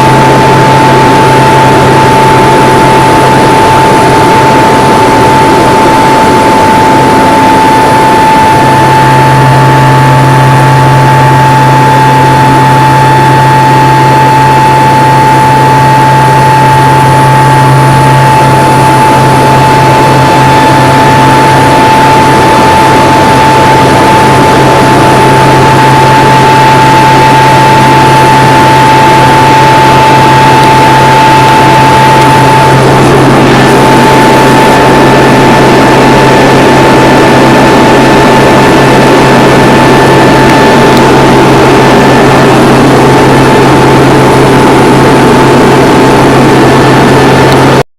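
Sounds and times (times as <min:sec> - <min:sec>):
aircraft engine and propeller drone: 0:00.0 - 0:47.8
high-pitched tone: 0:00.0 - 0:47.8
deeper hum: 0:00.0 - 0:47.9.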